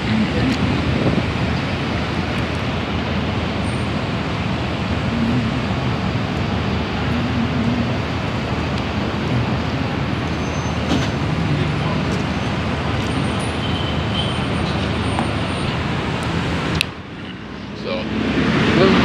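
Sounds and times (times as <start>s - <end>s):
city traffic: 0.0s - 19.0s
construction site noise: 0.0s - 19.0s.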